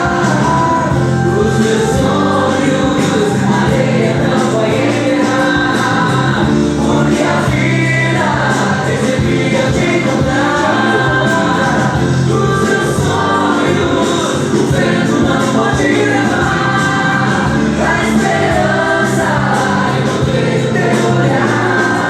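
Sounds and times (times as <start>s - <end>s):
worship song with instruments: 0.0s - 22.0s.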